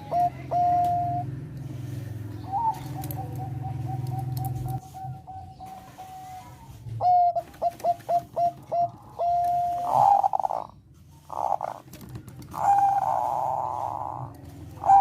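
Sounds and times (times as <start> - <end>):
dove cooing: 0.0 - 1.3, 2.3 - 15.0.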